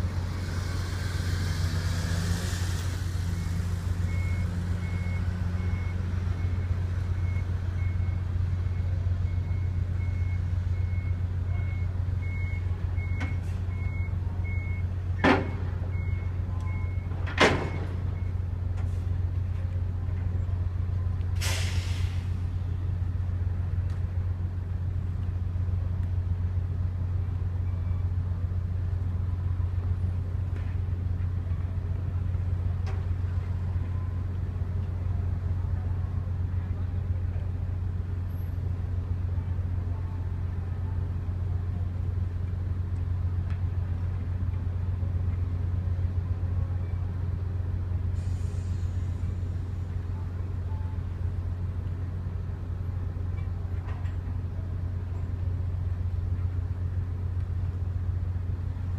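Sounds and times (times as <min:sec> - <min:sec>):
ferry engine drone: 0:00.0 - 0:58.9.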